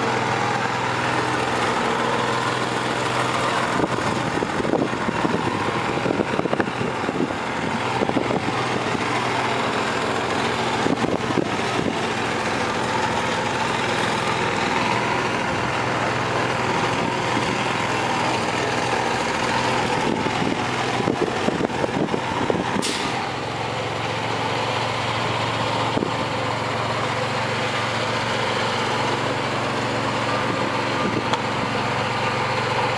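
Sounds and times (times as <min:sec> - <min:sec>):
boat engine idling: 0:00.0 - 0:32.9.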